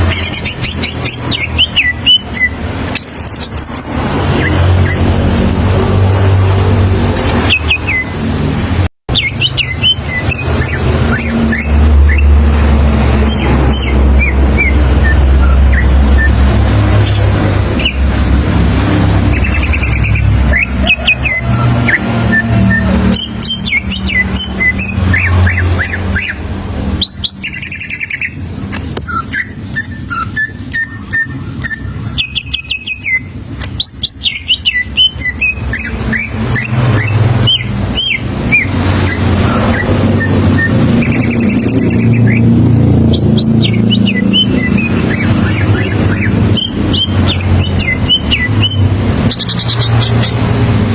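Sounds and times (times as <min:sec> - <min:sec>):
bird singing whistled notes: 0:00.0 - 0:05.2, 0:09.1 - 0:12.4, 0:13.1 - 0:18.0, 0:19.3 - 0:26.4, 0:29.0 - 0:50.4.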